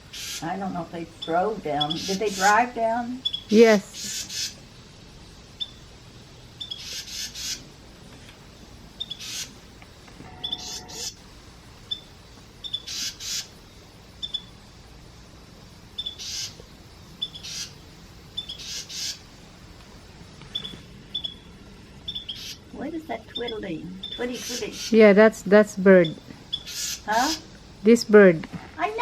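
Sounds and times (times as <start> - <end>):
wren high chirps: 0.0 - 7.7, 8.6 - 9.8, 10.4 - 14.7, 15.8 - 19.4, 20.5 - 29.0
harsh hissy bird bursts: 0.0 - 7.8, 8.6 - 9.8, 10.4 - 28.0.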